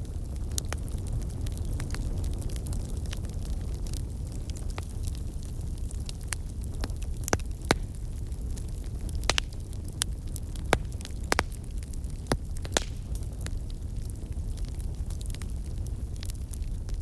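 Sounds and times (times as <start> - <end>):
fire popping: 0.0 - 17.0
fireplace fire rumbling: 0.0 - 17.0.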